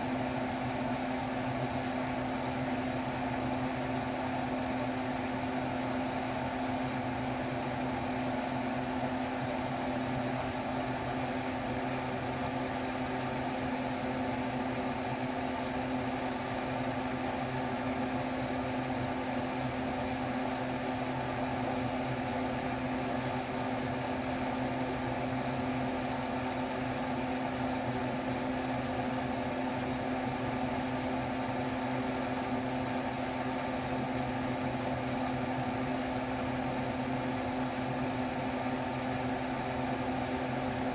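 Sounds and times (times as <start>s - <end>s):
electric fan hum: 0.0s - 40.9s.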